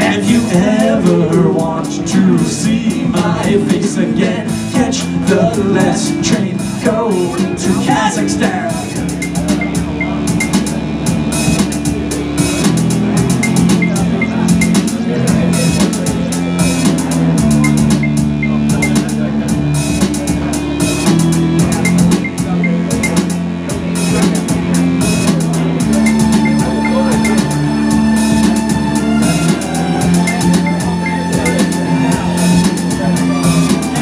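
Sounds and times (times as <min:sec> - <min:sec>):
bass guitar: 0:00.0 - 0:34.0
drum machine beat: 0:00.0 - 0:34.0
synthesizer: 0:00.0 - 0:34.0.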